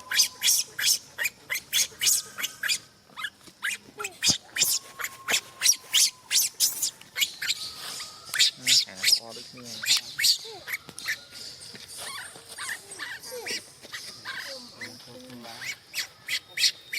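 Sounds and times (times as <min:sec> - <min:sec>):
monkey squeaking: 0:00.0 - 0:16.9.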